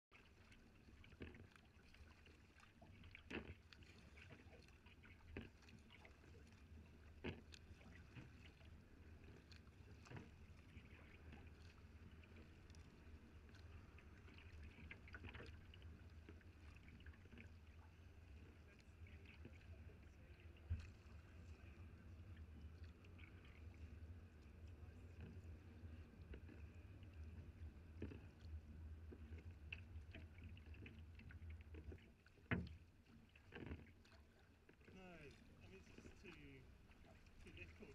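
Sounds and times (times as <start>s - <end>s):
low rumble of water: 0.1s - 37.9s
paddle strokes splashing: 0.1s - 37.9s.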